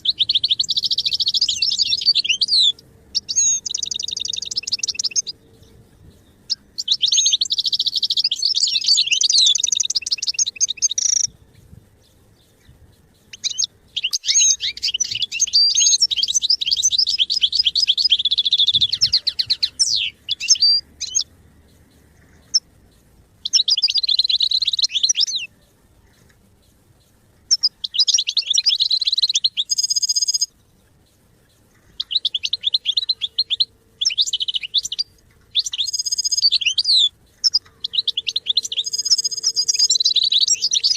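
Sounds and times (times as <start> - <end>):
finch twittering song: 0.0 - 40.9.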